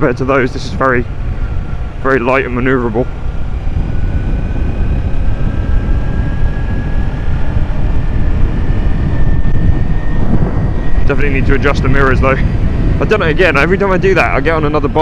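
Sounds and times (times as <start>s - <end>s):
motorcycle engine whine rising: 0.0s - 15.0s
wind buffeting microphone: 0.0s - 15.0s.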